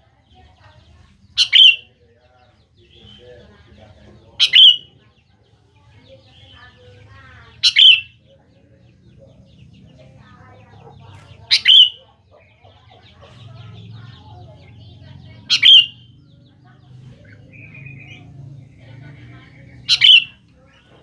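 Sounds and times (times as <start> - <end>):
faint chirping: 0.0 - 21.0.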